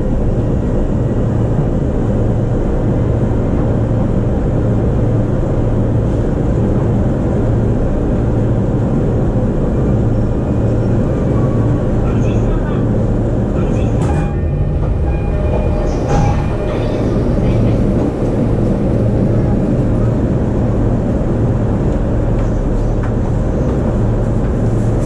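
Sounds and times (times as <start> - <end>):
electric train running rumble: 0.0 - 25.0.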